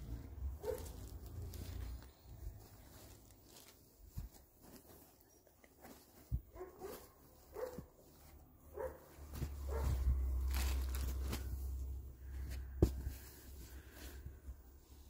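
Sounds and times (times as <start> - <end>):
cloth rustling: 0.0 - 15.0.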